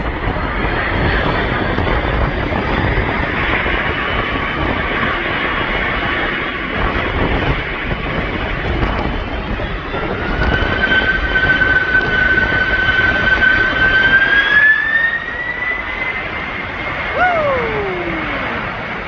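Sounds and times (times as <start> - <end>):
jet engine high whine: 0.0 - 19.0
jet engine rumble: 0.0 - 19.0.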